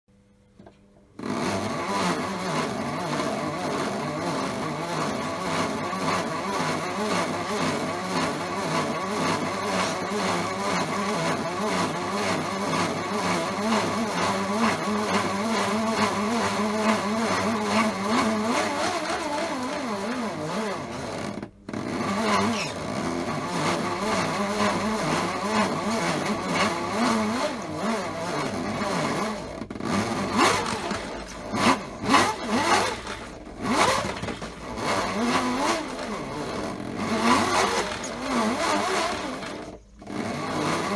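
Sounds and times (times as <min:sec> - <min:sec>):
small electric motor whirring: 0:01.2 - 0:40.9.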